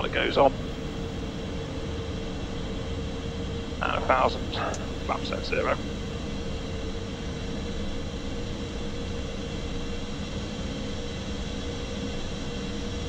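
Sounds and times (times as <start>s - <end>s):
jet engine and airflow noise: 0.0s - 13.0s
low steady hum: 0.0s - 13.0s.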